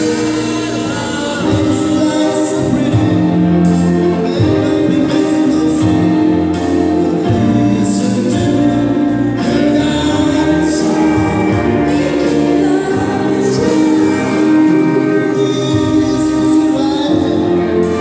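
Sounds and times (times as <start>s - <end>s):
drums: 0.0s - 18.0s
guitars: 0.0s - 18.0s
keyboard: 0.0s - 18.0s
person singing: 0.0s - 18.0s.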